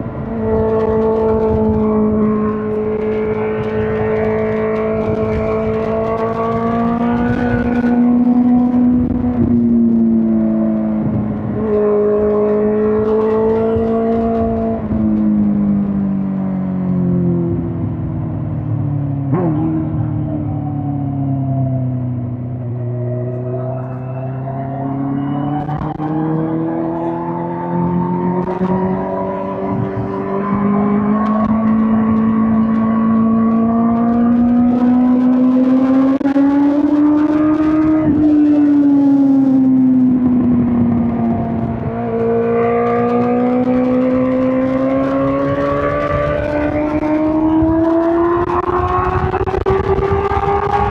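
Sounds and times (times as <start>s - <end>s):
motorcycle engine on the move: 0.0s - 50.9s.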